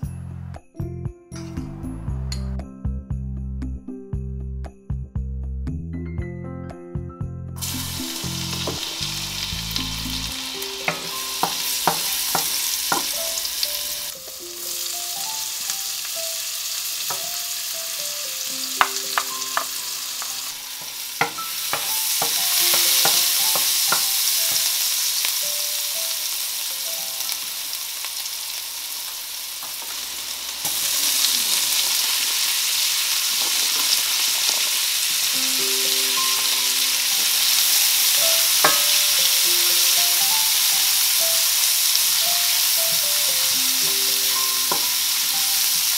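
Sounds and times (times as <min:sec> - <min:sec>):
vegetables sizzling in hot oil: 0:07.6 - 0:45.9.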